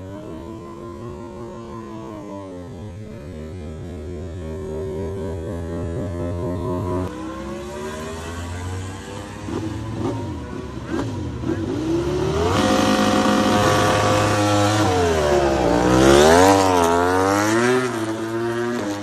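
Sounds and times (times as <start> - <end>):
racing motorcycle engine revving: 0.0 - 19.0.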